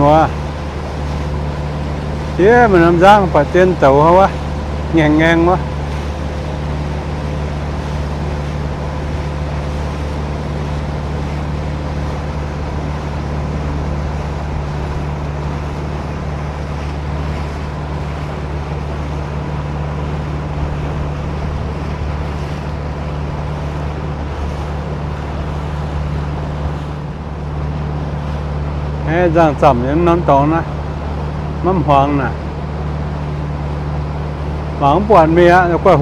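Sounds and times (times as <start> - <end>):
boat motor droning: 0.0 - 36.0
water noise: 0.0 - 36.0.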